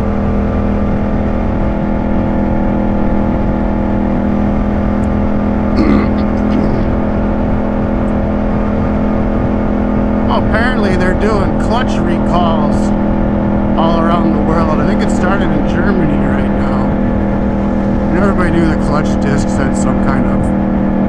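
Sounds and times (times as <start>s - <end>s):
motorcycle engine cruising: 0.0s - 21.0s
wind rumble on microphone: 0.0s - 21.0s.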